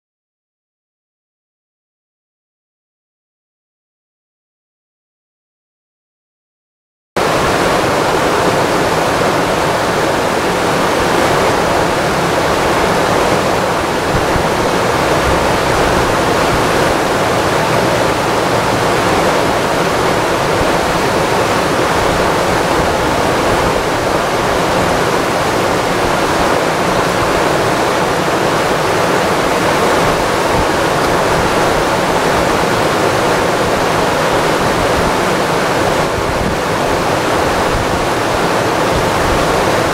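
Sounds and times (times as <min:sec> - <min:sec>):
river rapids rushing: 0:07.2 - 0:39.9.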